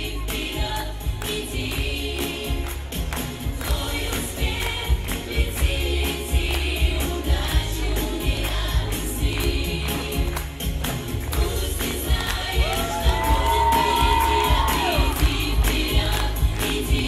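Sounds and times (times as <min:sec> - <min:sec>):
pop backing music with beat: 0:00.0 - 0:17.0.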